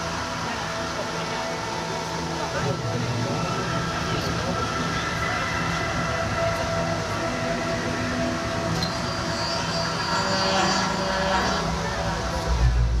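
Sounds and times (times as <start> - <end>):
steady rumble with held tones: 0.0 - 13.0.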